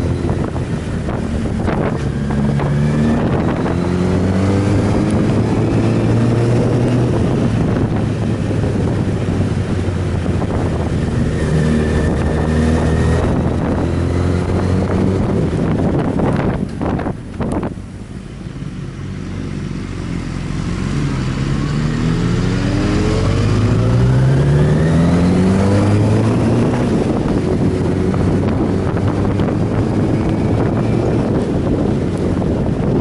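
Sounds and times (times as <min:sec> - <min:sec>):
wind noise: 0:00.0 - 0:18.7, 0:19.5 - 0:33.0
motorcycle engine accelerating: 0:00.0 - 0:33.0.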